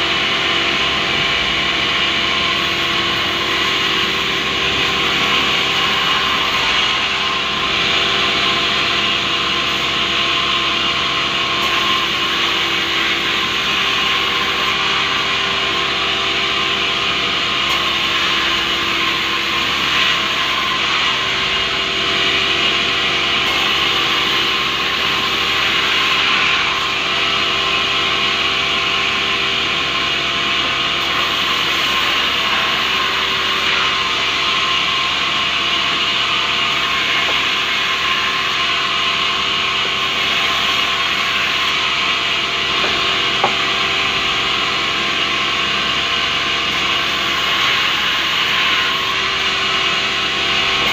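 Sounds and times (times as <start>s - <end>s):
machine hum: 0.0s - 50.9s.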